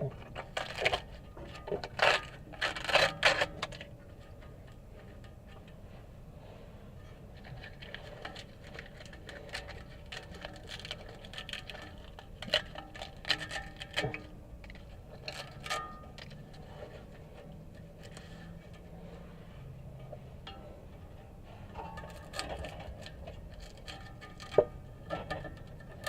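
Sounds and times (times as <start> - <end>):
brittle patch cracking and scraping: 0.0 - 5.8, 7.4 - 18.9, 21.0 - 26.0.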